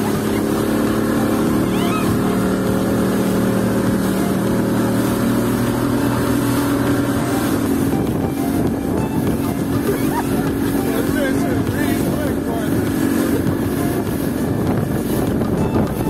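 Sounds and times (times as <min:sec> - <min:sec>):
outboard motor running: 0:00.0 - 0:16.0
rushing boat wake: 0:00.0 - 0:16.0
wind: 0:00.0 - 0:16.0.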